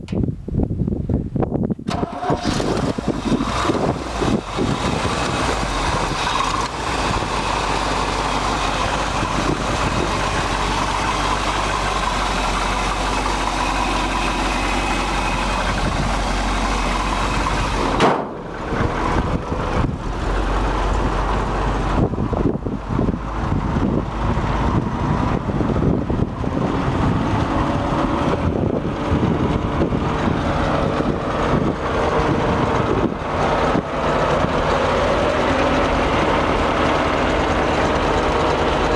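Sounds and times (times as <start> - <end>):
wind buffeting microphone: 0.0 - 38.9
truck engine idling: 1.9 - 38.9.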